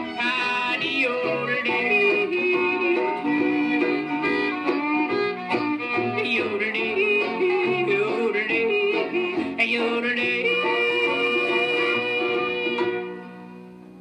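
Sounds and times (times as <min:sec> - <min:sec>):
wordless yodeling vocal: 0:00.0 - 0:04.6, 0:06.0 - 0:13.0
fiddle and string band: 0:00.0 - 0:14.0
old-time country song from record: 0:00.0 - 0:14.0.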